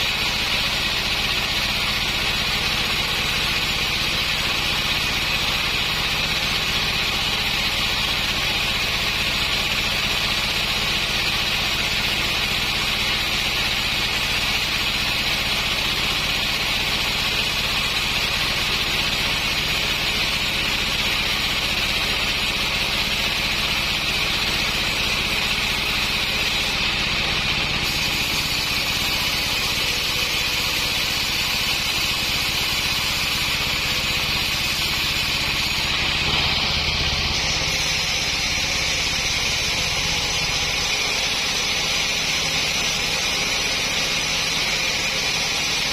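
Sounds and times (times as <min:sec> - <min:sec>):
sawmill engine hum: 0:00.0 - 0:45.9.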